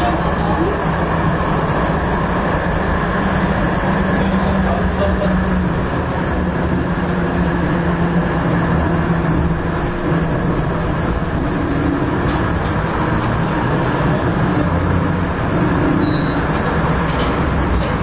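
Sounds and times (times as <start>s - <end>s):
passing street traffic: 0.0s - 18.0s
tram motor hum: 0.0s - 18.0s
wheels rumbling on rails: 0.0s - 18.0s.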